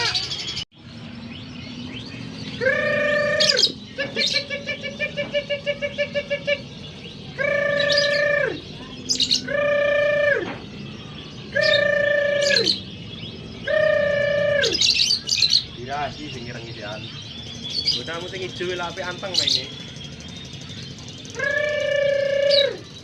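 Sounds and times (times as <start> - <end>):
fast repeated bird notes: 0.0 - 23.0
low-pitched bird calls: 0.0 - 23.0
very high chirps: 0.0 - 23.0.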